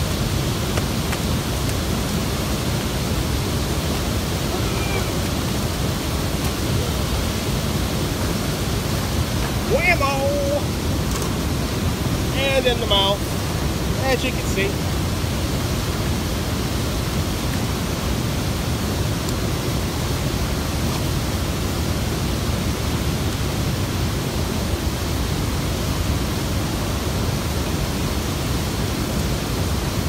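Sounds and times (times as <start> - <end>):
water rushing over spillway: 0.0 - 30.0.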